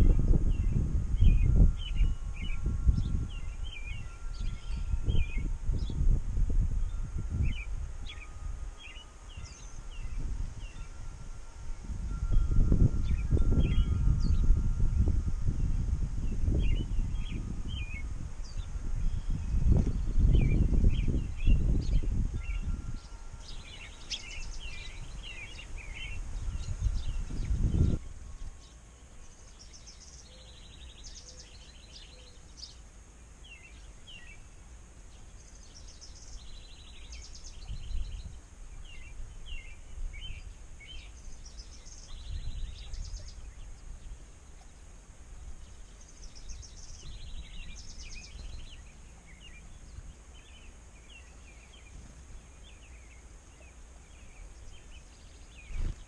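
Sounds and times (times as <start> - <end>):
gusty wind on microphone: 0.0 - 28.7, 36.1 - 44.3, 45.3 - 53.0, 54.0 - 56.0
small songbirds chirping: 0.0 - 56.0.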